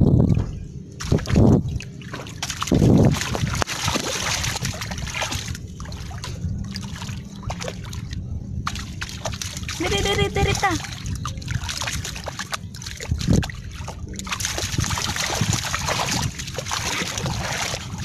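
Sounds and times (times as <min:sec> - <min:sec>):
feet splashing through water: 0:01.0 - 0:18.0.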